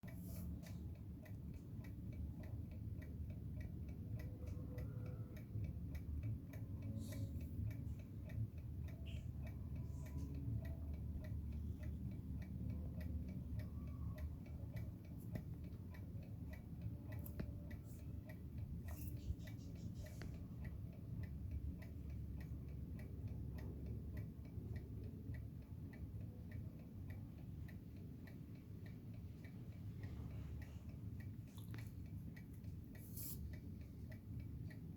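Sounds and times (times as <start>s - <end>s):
mechanical alarm clock ticking: 0.0s - 34.9s.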